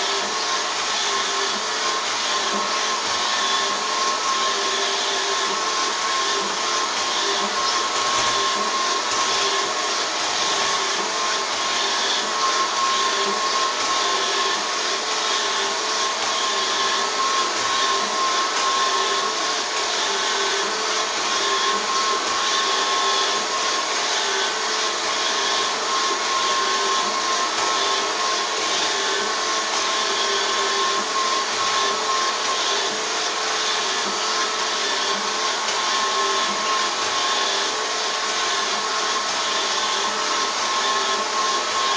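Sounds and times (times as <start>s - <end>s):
robot vacuum whirring: 0.0s - 41.9s.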